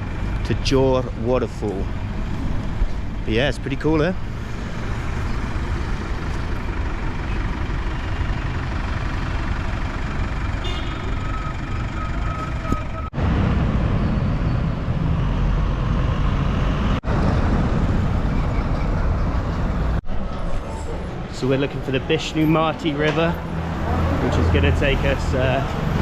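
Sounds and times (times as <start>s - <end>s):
trucks and cars passing: 0.0s - 26.0s.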